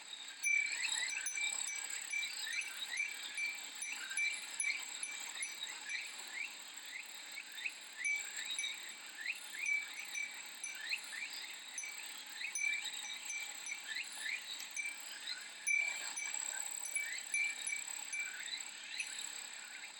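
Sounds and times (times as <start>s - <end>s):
cicadas droning: 0.2s - 19.9s
wind chime tinkling: 0.4s - 6.5s, 7.8s - 19.5s.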